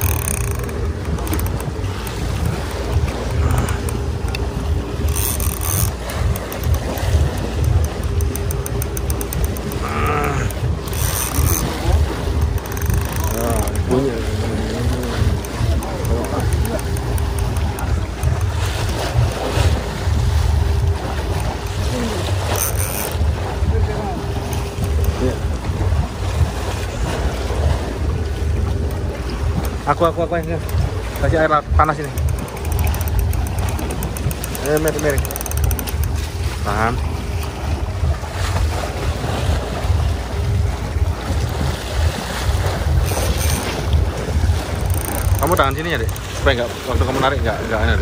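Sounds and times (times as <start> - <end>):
water washing: 0.0 - 48.0
wind buffeting microphone: 0.0 - 48.0.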